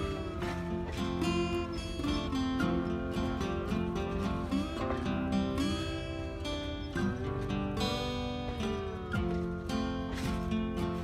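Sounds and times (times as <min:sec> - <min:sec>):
acoustic guitar strumming and picking: 0:00.0 - 0:11.0.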